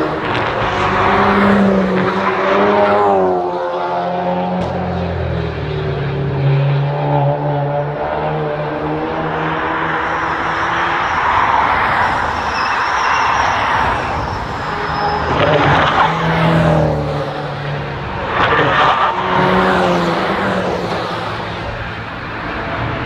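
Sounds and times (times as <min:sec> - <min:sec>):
race cars driving: 0:00.0 - 0:23.0.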